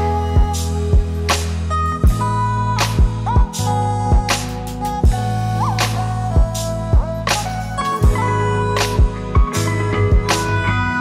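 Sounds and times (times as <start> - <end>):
background music with drum beat: 0.0 - 10.7.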